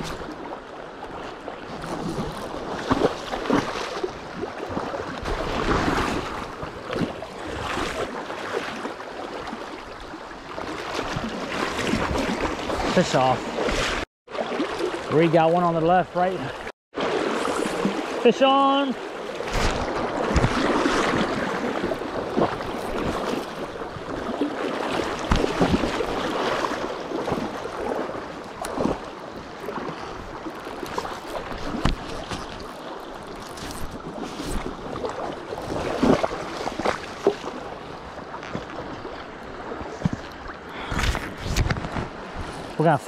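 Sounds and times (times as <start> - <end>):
rushing river water: 0.0 - 43.0.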